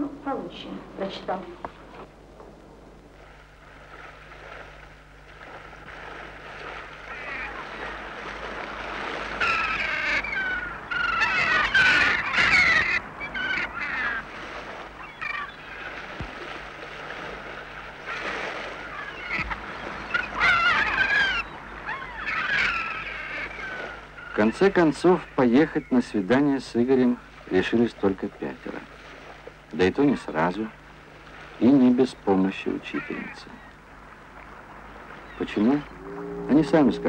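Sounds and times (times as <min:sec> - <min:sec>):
waterside background hiss: 0:00.0 - 0:37.0
gulls calling: 0:04.8 - 0:37.0.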